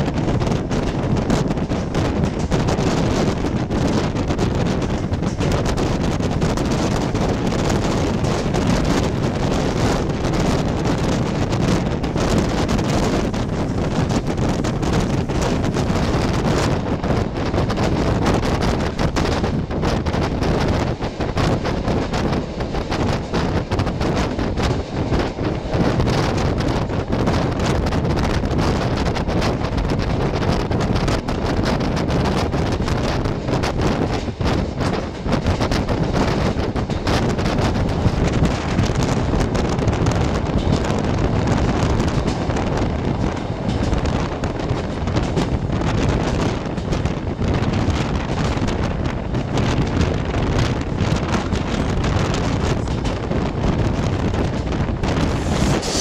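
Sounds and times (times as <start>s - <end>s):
moving train rumble: 0.0s - 56.0s
wind buffeting microphone: 0.0s - 56.0s.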